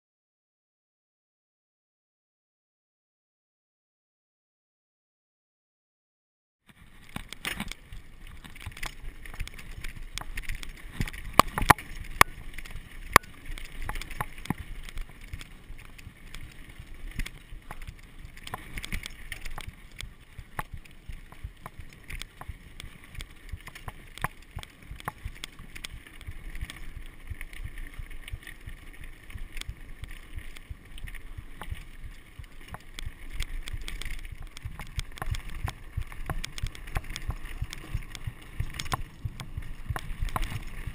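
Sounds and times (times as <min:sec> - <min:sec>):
bike clacking and rattling: 0:06.8 - 0:40.9.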